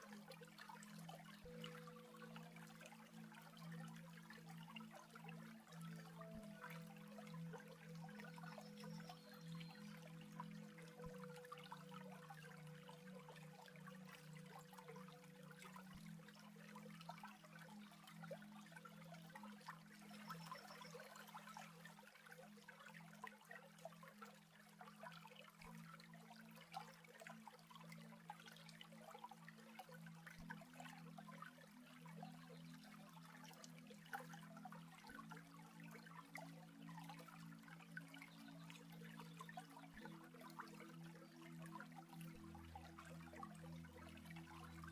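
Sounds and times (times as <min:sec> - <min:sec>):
low held background tones: 0:00.0 - 0:44.9
water trickling and babbling: 0:00.0 - 0:44.9.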